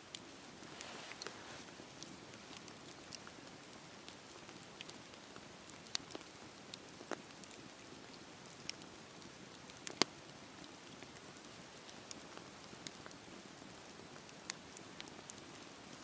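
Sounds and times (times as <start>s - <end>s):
burning wood crackling and popping: 0.0s - 16.0s
campfire flames hissing: 0.1s - 16.0s.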